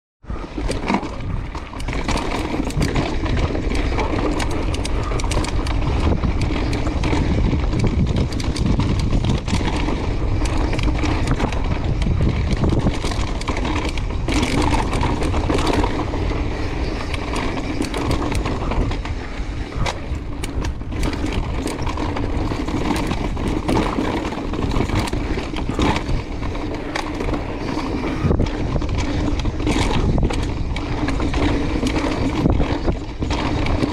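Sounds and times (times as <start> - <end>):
bike tyres rolling on rocky dirt: 0.2 - 33.9
bike clattering over bumps: 0.3 - 33.9.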